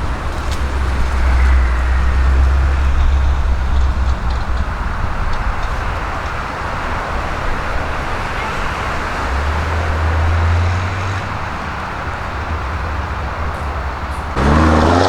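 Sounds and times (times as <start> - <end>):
car engine low drone: 0.0 - 15.0.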